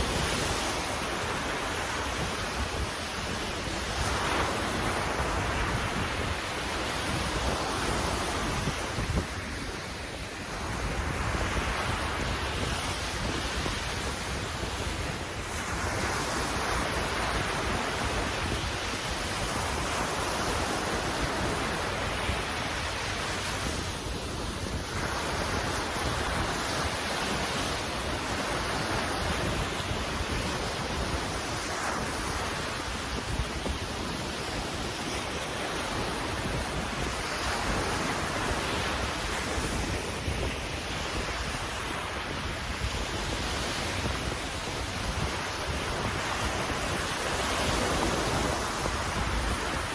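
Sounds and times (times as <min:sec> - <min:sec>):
ocean waves washing: 0:00.0 - 0:49.9
wind buffeting microphone: 0:00.0 - 0:49.9.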